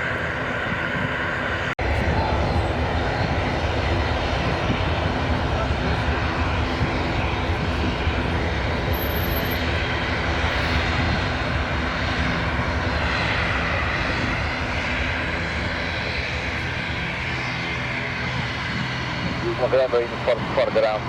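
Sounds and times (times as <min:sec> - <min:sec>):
airliner engines running: 0:00.0 - 0:21.0.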